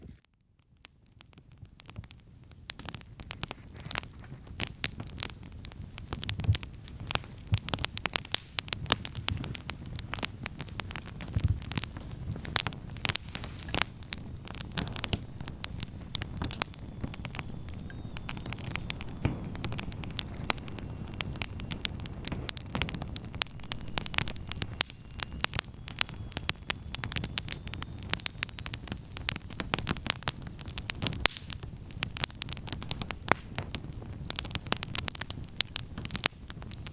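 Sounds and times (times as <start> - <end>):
campfire pops and snaps: 0.0 - 36.9
rush of flames: 3.2 - 36.9.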